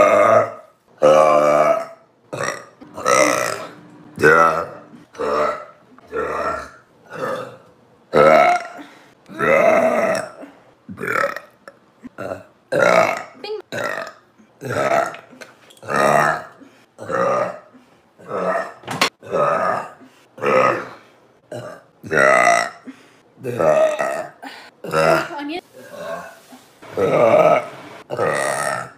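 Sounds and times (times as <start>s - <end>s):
woman burping loudly: 0.0s - 26.2s, 27.0s - 28.9s.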